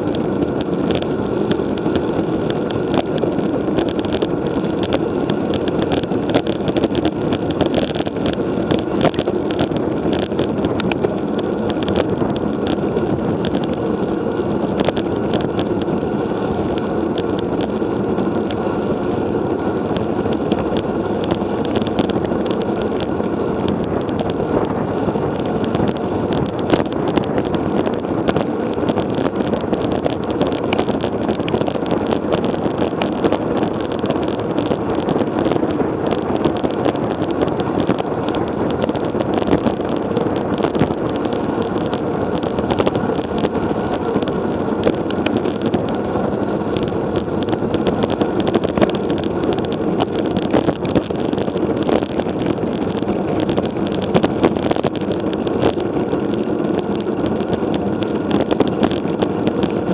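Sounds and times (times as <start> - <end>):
bicycle ticks and rattles: 0.0 - 59.9
wind and road rumble: 0.0 - 59.9.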